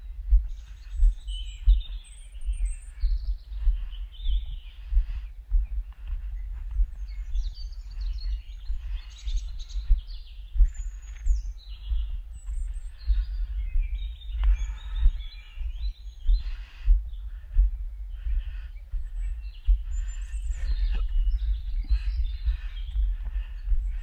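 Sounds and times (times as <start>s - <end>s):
songbirds singing and chirping: 0.0s - 24.0s.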